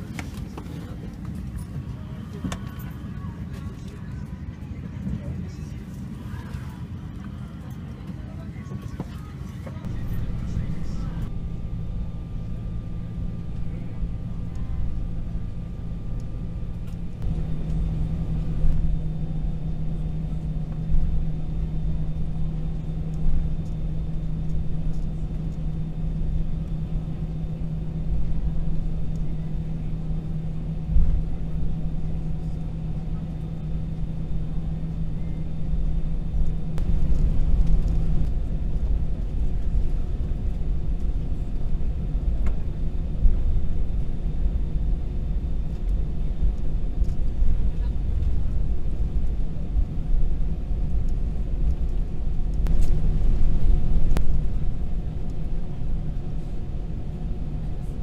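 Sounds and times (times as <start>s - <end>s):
aircraft cabin rumble: 0.0s - 58.0s
steady hum: 0.0s - 58.0s.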